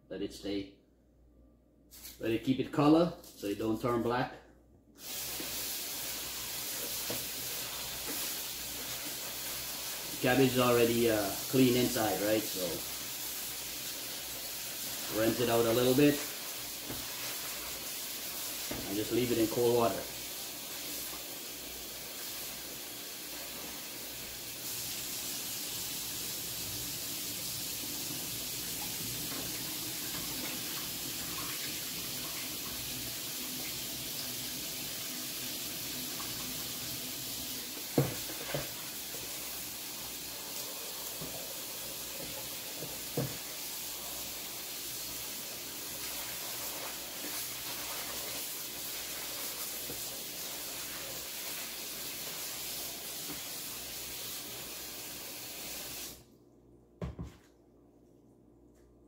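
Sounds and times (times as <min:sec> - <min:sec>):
kitchen tap running into sink: 0:05.0 - 0:56.2.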